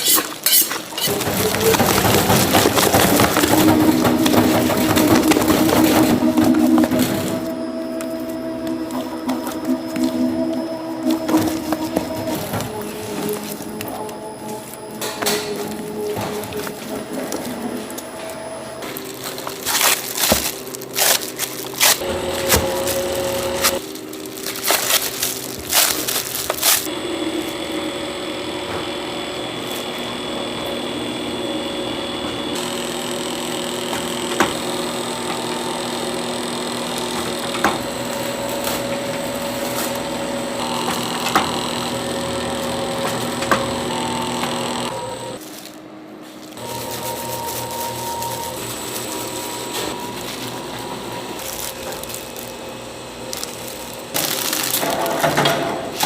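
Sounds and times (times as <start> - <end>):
machine humming: 0.0 - 56.0.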